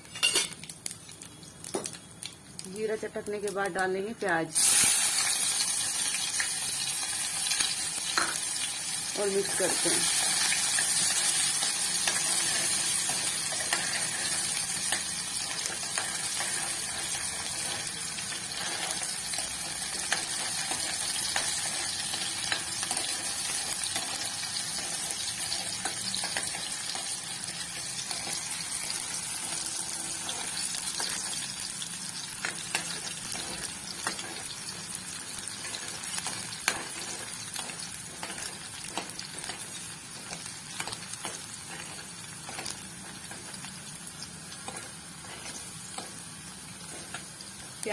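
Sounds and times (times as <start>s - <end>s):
onions sizzling in hot oil: 0.0s - 47.9s.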